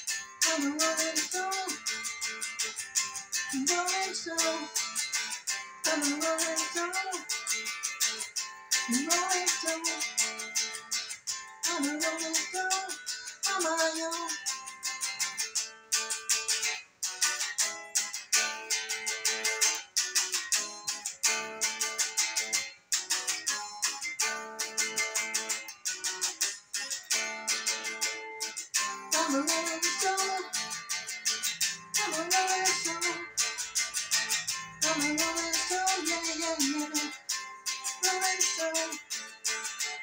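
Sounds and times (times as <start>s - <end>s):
electric guitar lead: 0.0s - 40.0s.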